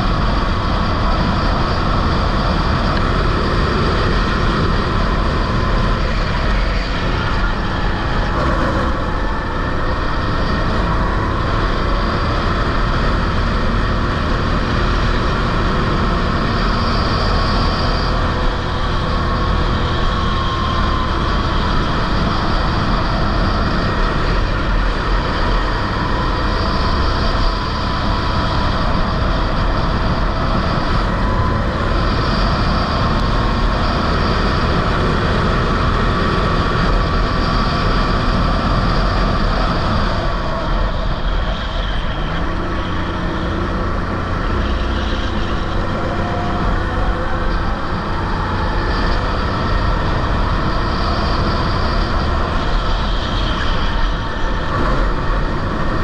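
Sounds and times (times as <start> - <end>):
go-kart engine racing: 0.0 - 56.0
wind rumbling on microphone: 0.0 - 56.0.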